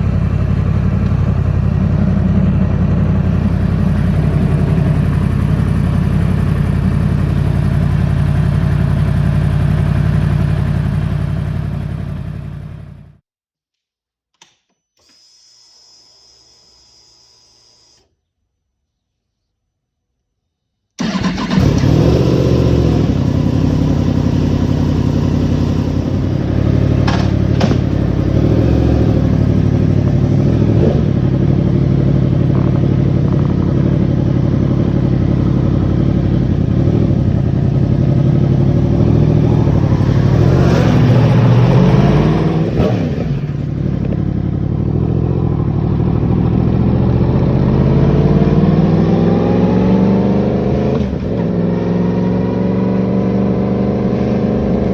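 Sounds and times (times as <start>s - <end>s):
motorcycle engine idling and revving: 0.0s - 13.2s, 21.0s - 54.9s.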